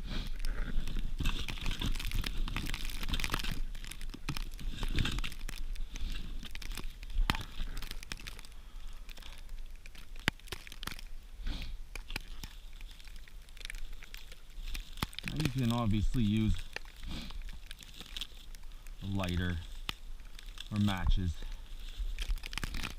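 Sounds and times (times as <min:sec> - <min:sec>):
twigs crumpling and tearing: 0:00.0 - 0:22.9
twigs snapping: 0:00.0 - 0:22.9.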